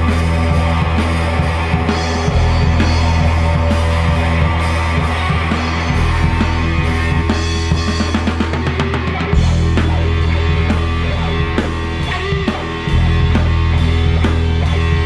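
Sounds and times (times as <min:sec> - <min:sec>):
bass guitar: 0:00.0 - 0:15.0
rock band playing live: 0:00.0 - 0:15.0.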